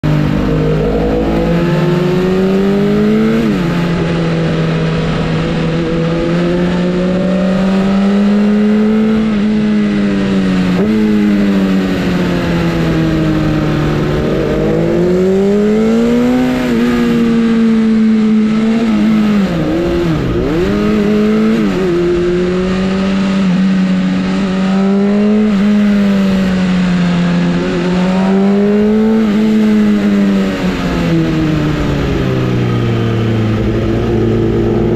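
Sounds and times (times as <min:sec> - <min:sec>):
motorcycle engine at high revs: 0:00.0 - 0:34.9.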